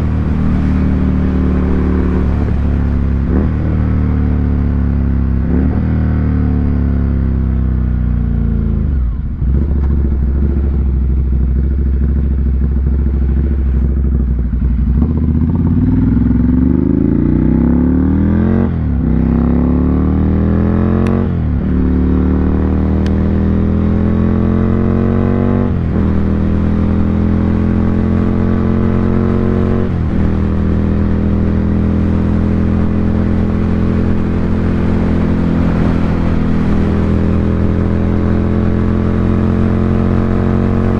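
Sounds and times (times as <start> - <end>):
motorcycle engine shifting gears: 0.0 - 40.9.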